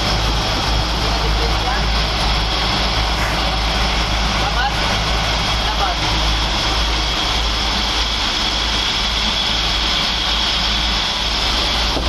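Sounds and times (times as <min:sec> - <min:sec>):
diesel engine drone: 0:00.0 - 0:12.0
high-pitched whine: 0:00.0 - 0:12.0.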